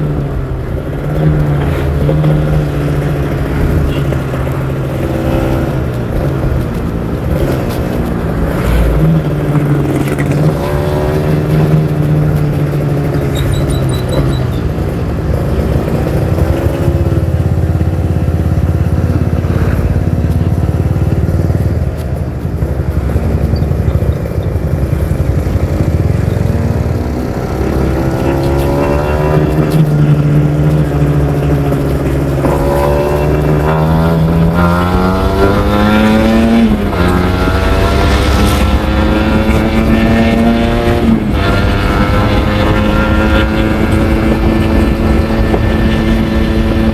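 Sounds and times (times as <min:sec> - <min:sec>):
two-stroke motorcycle engine revving: 0:00.0 - 0:46.9.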